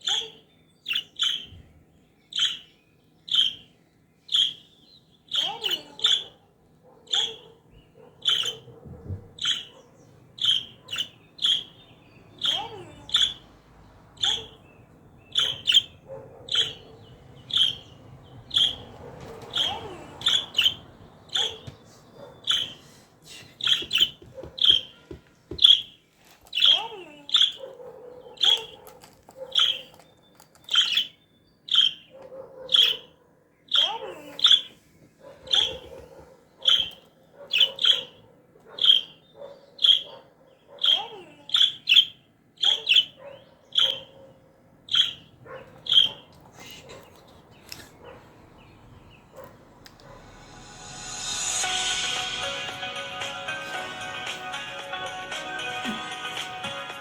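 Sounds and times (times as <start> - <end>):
parrot chirping: 0.0 - 1.6, 2.3 - 6.4, 7.1 - 8.7, 9.4 - 22.9, 23.6 - 34.8, 35.5 - 44.2, 44.8 - 57.0.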